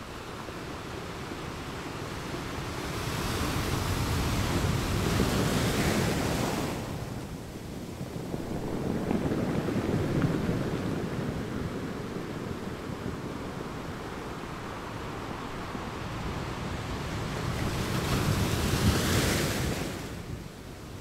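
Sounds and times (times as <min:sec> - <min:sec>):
ocean waves breaking: 0:00.6 - 0:20.3.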